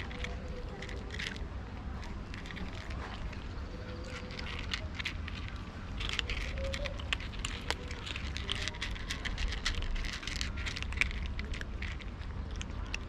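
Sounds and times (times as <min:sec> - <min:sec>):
cats chewing and lapping: 0:00.0 - 0:13.0
low steady rumble: 0:00.0 - 0:13.0.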